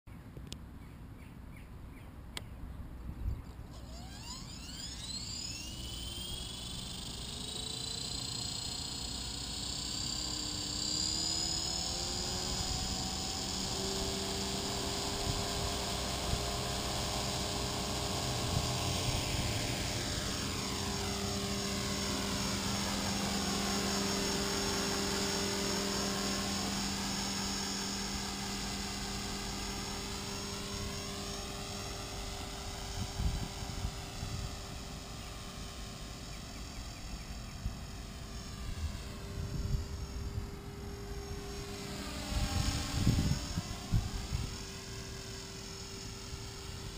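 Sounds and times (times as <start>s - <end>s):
rc helicopter motor whine: 3.4s - 46.9s.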